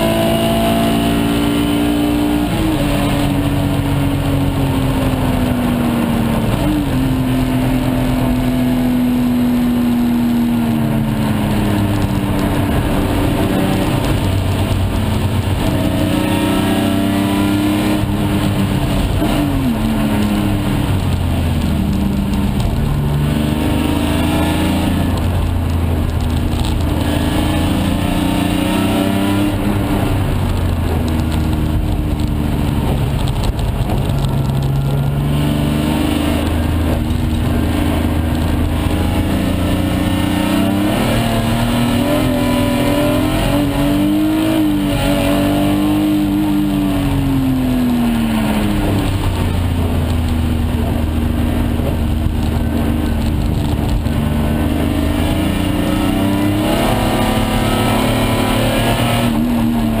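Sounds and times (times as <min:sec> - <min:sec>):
car engine accelerating and shifting: 0:00.0 - 1:00.0.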